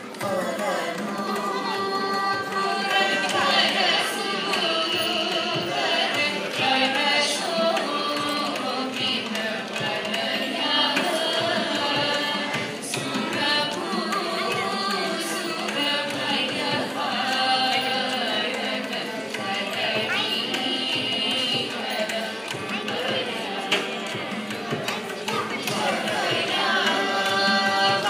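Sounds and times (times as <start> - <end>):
group of singers singing: 0.0 - 28.0
mridangam drumming: 0.0 - 28.0.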